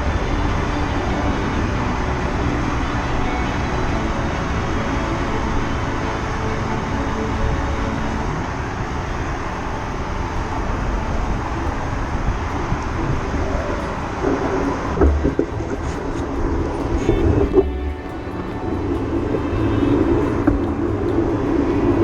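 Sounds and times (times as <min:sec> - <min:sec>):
bicycle road noise: 0:00.0 - 0:22.0
traffic: 0:00.0 - 0:22.0.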